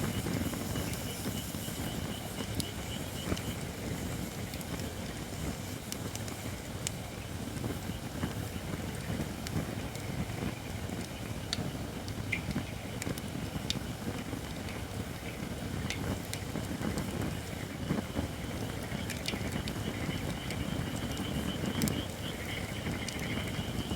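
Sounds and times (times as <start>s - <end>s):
campfire flames rumbling: 0.0s - 23.9s
wood crackling and popping: 2.3s - 23.9s.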